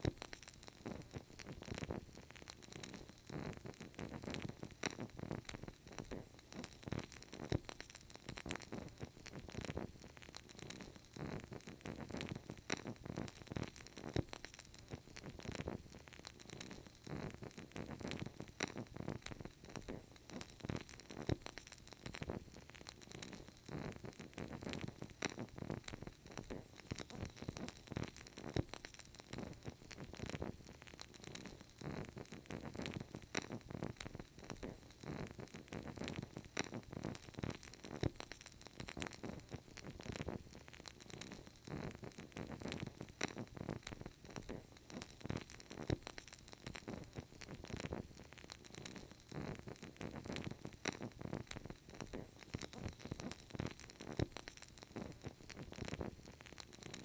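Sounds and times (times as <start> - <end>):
candle crackling: 0.0 - 57.0.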